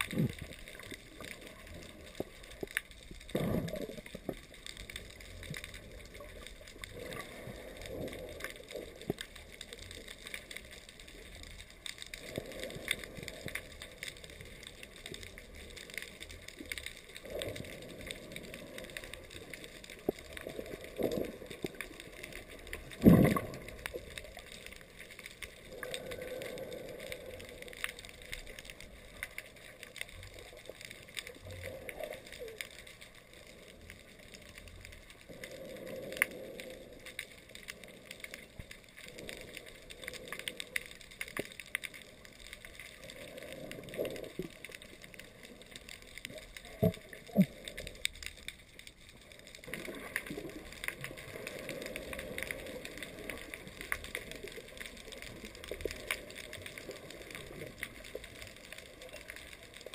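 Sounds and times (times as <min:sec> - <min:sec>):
water sloshing and gurgling: 0:00.0 - 0:59.9.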